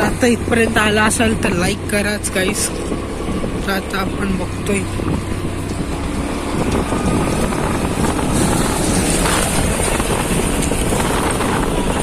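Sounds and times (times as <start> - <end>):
vehicle road and engine noise: 0.0 - 12.0
wind buffeting microphone: 0.0 - 12.0.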